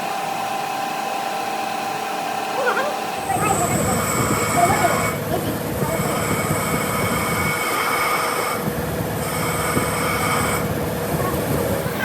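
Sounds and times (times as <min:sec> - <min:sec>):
rough machine rumble: 0:00.0 - 0:12.0.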